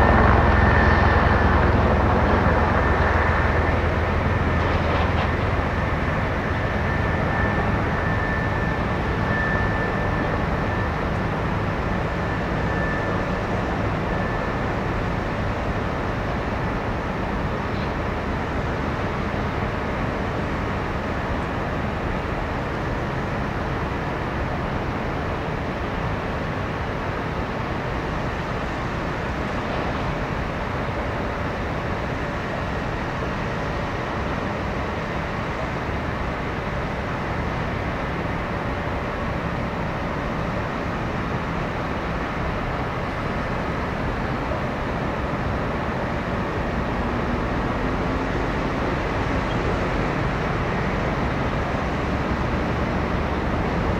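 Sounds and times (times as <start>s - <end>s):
distant engines and machinery rumble: 0.0s - 53.9s.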